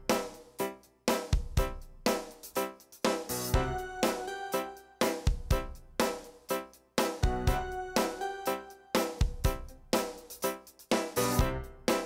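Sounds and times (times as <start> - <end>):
keyboard chords in steady rhythm: 0.0 - 12.0.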